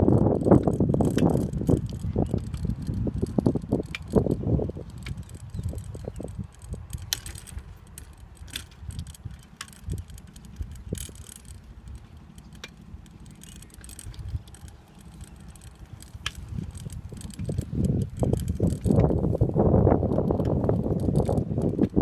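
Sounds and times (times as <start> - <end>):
bicycle rattling and clinking: 0.0 - 22.0
sharp clicks: 0.1 - 22.0.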